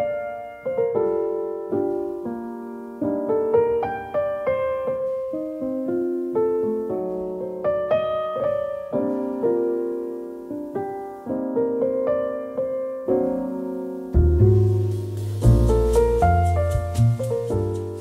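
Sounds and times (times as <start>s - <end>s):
piano notes and chords: 0.0s - 18.0s.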